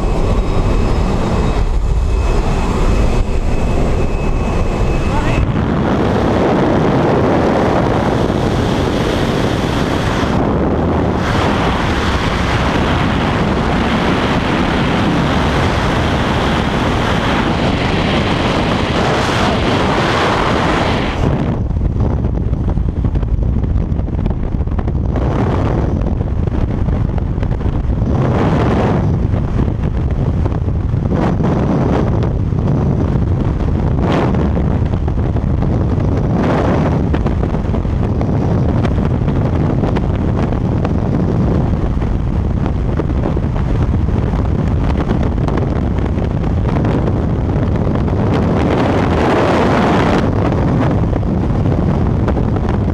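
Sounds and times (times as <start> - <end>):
buffeting wind on microphone: 0.0 - 52.9
rushing slipstream and aircraft noise: 0.0 - 52.9.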